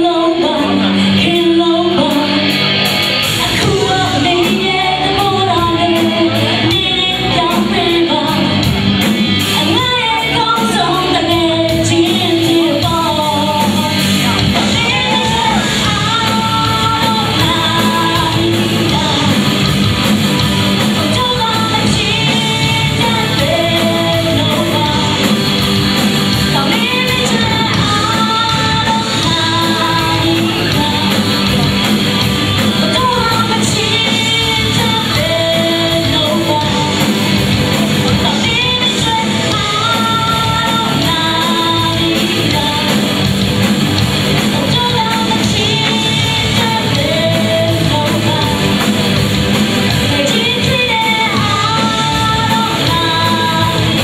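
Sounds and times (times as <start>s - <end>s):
live rock band playing: 0.0s - 54.0s
woman singing: 0.0s - 54.0s.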